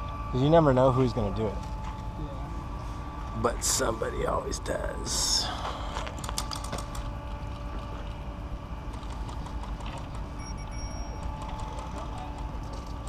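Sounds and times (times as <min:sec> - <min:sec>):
faint steady tones: 0:00.0 - 0:13.0
steady machine hum: 0:00.0 - 0:13.0.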